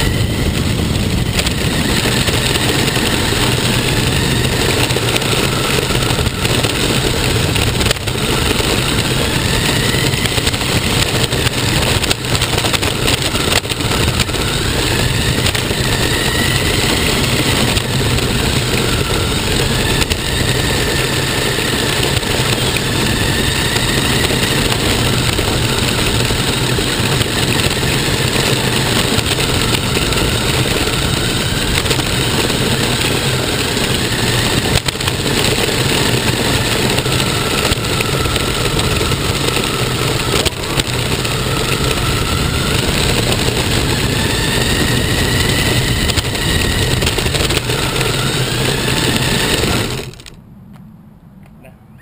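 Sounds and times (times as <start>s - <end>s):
rc car motor whining: 0.0s - 50.4s.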